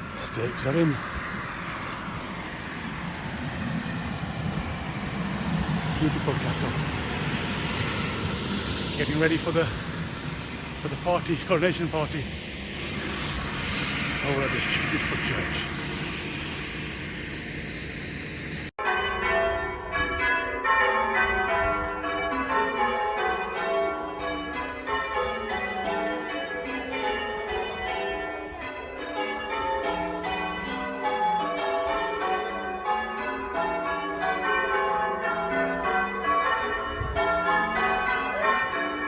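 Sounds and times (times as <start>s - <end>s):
church bells ringing a peal: 0.0s - 3.0s, 4.0s - 16.0s, 18.8s - 39.0s.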